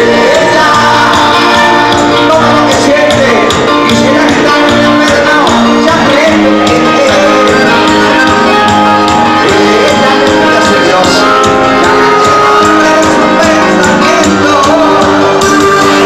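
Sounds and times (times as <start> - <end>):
keyboard chords: 0.0 - 16.0
percussion beat: 0.0 - 16.0.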